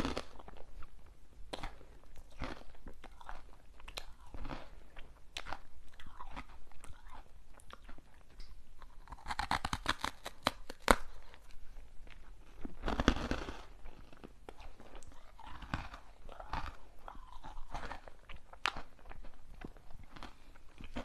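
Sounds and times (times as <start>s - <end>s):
chewing crunchy sweets: 0.0s - 21.0s.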